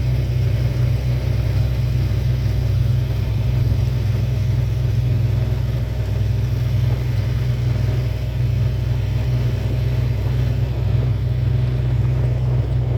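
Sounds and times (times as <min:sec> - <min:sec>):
steady low rumble: 0:00.0 - 0:12.9.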